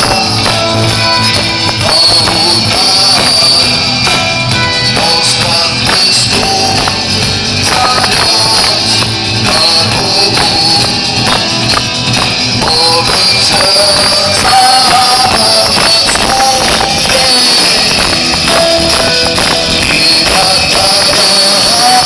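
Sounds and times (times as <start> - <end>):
band music with jingling: 0.0 - 22.0.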